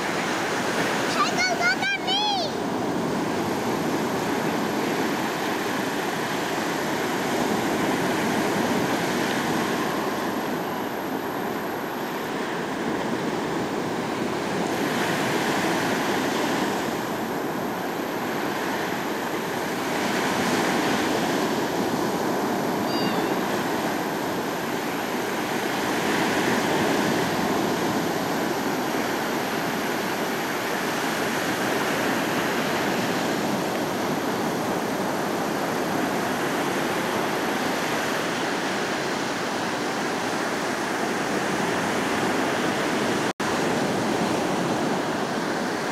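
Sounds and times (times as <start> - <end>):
ocean surf breaking on beach: 0.0 - 45.9.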